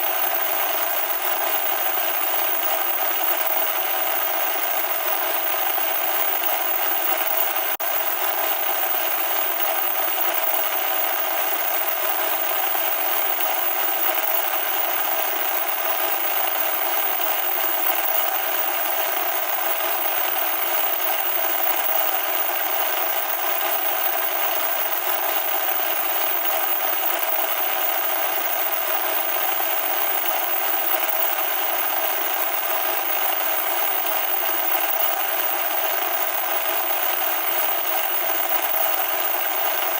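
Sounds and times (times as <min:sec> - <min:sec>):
harsh static noise: 0:00.0 - 0:39.9.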